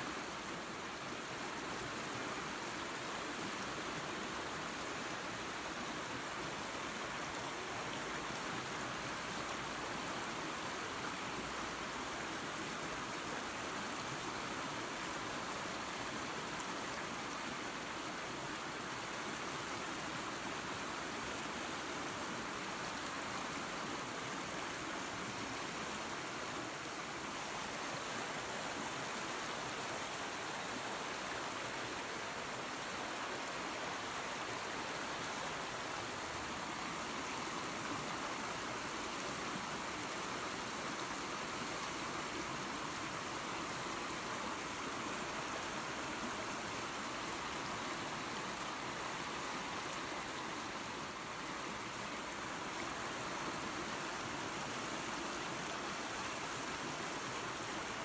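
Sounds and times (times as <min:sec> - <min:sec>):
creek and small waterfall rushing: 0:00.0 - 0:58.0.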